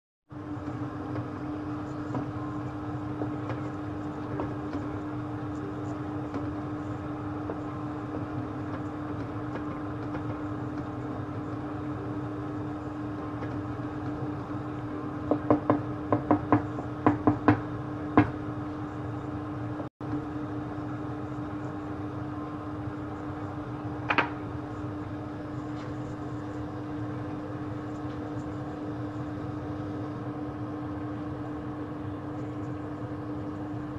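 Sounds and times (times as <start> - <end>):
kitchen appliance hum: 0.3 - 33.9.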